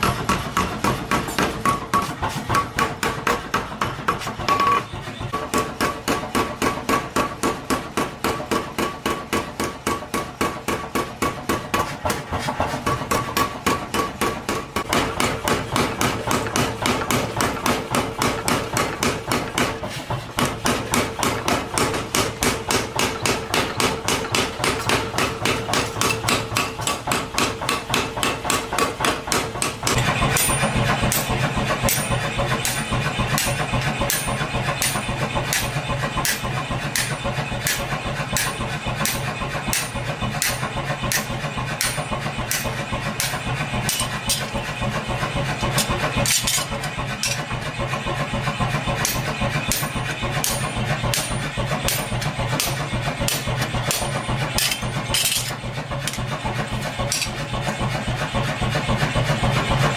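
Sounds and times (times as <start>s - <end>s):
steady machine hum: 10.4s - 59.9s.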